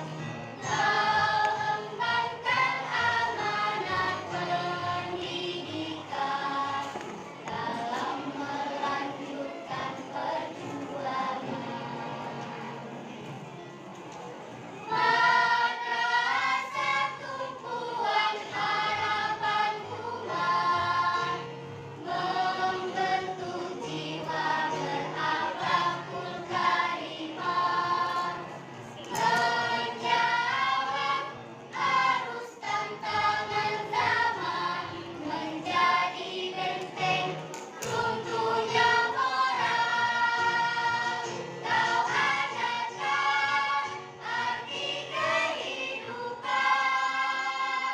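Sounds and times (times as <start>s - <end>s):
choir singing: 0.0s - 13.5s, 14.7s - 47.9s.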